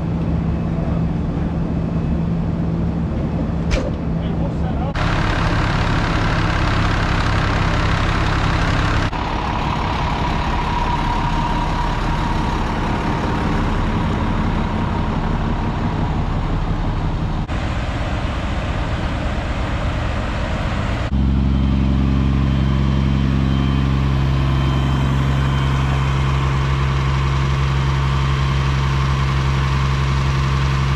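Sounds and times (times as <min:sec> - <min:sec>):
fire engines idling: 0:00.0 - 0:30.9.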